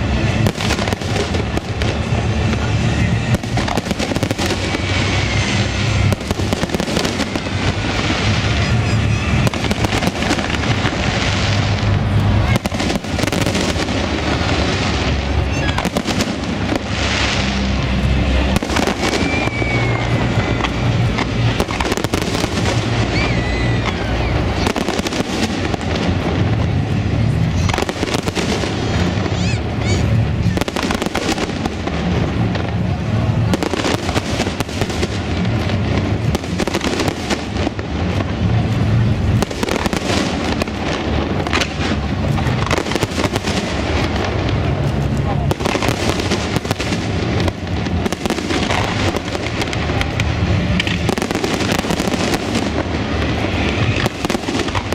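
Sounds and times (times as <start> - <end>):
firework whistle: 0.0 - 54.9
fireworks bangs and crackling: 0.0 - 54.9
low rumble: 0.0 - 54.9
music: 0.0 - 54.9.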